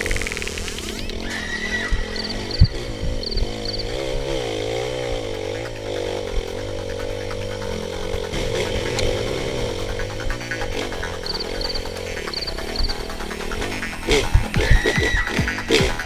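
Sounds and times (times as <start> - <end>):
off-road motorcycle engine revving: 0.0 - 16.0.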